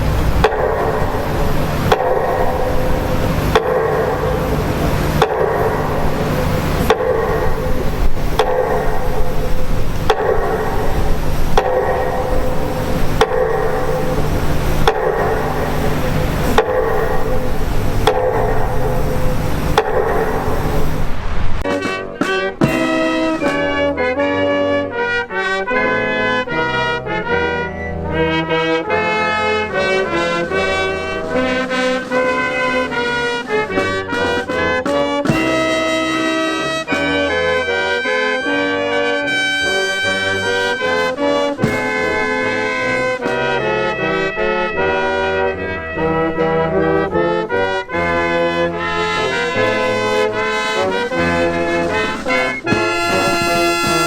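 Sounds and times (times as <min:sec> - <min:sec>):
brass band playing chords: 0:00.0 - 0:21.0, 0:21.6 - 0:54.0.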